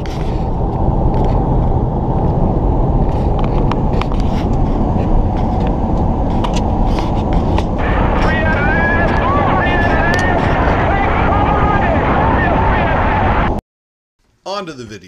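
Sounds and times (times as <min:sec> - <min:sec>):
road and wind noise in car: 0:00.0 - 0:13.6.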